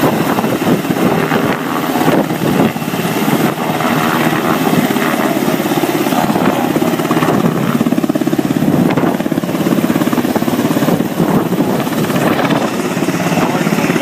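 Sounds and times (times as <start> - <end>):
helicopter rotor beating: 0.0 - 14.0
helicopter turbines running: 0.0 - 14.0.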